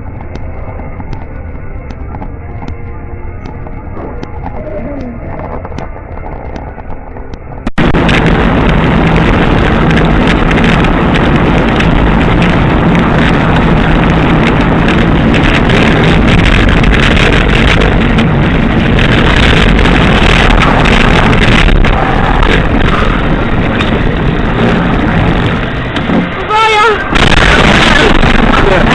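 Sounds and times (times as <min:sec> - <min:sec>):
low engine drone: 0:00.0 - 0:28.9
wind and road noise: 0:00.0 - 0:28.9.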